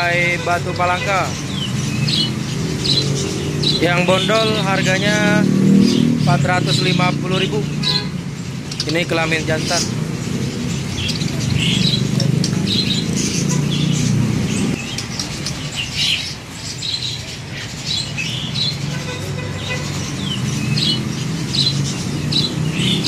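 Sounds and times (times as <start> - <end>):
road traffic hum: 0.0 - 23.0
songbirds chirping and squawking: 0.0 - 23.0.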